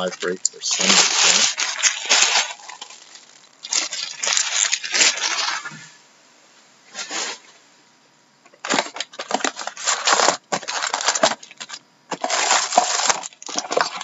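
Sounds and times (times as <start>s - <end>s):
foil packs crinkling: 0.0s - 5.9s, 8.5s - 14.0s.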